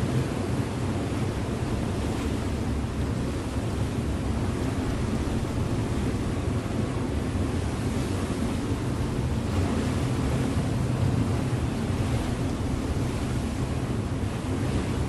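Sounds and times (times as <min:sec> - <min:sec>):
ship engine rumble: 0:00.0 - 0:15.0
water rushing along hull: 0:00.0 - 0:15.0.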